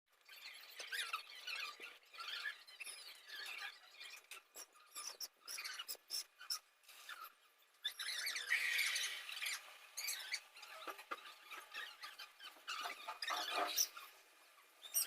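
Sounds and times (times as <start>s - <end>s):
nestlings cheeping: 0.3s - 14.1s.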